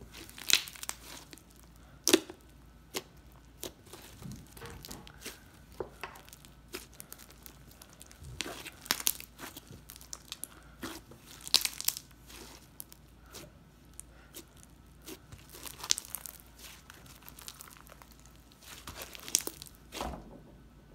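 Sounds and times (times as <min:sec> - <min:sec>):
slime crackling and popping: 0:00.0 - 0:20.0.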